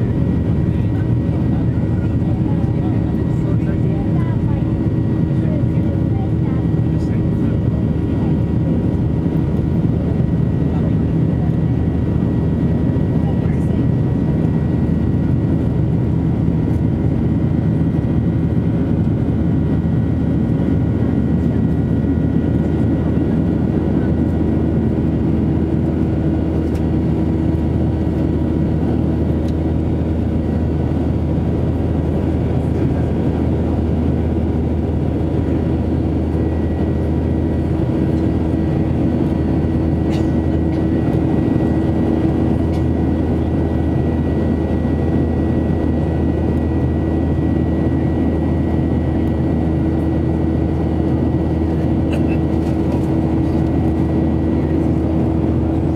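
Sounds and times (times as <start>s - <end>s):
jet engines droning in cabin: 0.0s - 55.9s.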